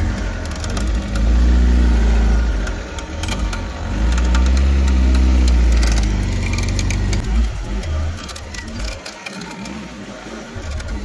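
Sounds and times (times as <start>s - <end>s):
sharp clicks and knocks: 0.0s - 9.9s, 10.6s - 11.0s
engine revving: 0.0s - 11.0s.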